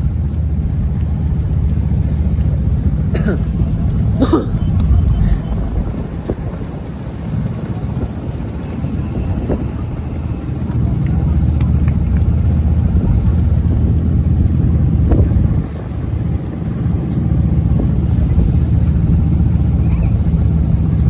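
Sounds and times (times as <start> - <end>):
vehicle engine running: 0.0 - 21.0
wind noise on microphone: 0.0 - 21.0.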